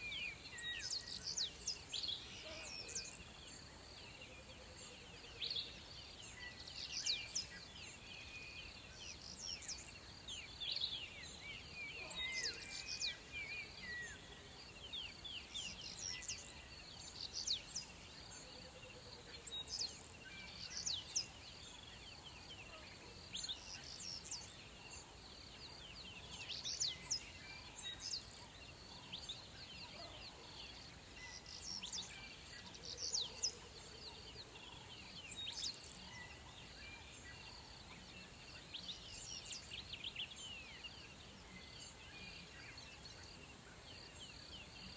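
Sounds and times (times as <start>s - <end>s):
birds chirping and twittering: 0.0s - 44.9s
outdoor background: 0.0s - 44.9s.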